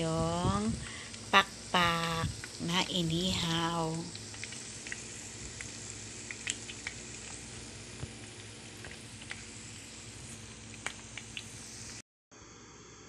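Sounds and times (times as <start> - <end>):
chicken wings sizzling in a pan: 0.0 - 12.0.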